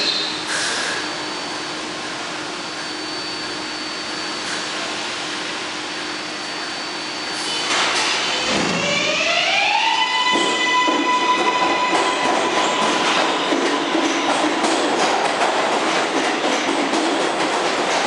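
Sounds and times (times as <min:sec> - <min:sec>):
train pulling out rush: 0:00.2 - 0:18.0.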